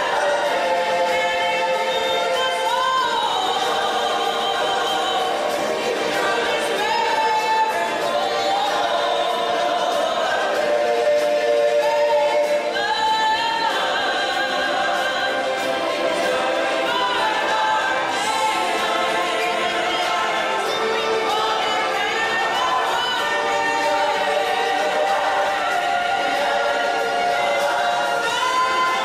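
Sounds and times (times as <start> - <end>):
backing music: 0.0 - 29.0
choir singing held notes: 0.0 - 29.0.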